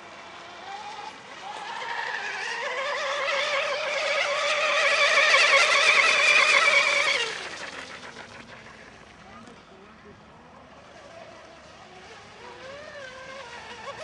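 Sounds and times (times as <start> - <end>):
model boat motor buzzing: 0.0 - 14.0.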